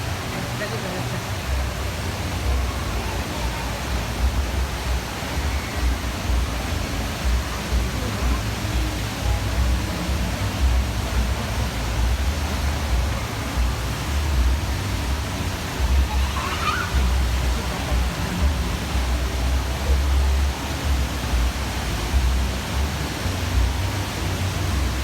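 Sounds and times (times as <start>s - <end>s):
indoor waterfall roaring: 0.0s - 25.0s.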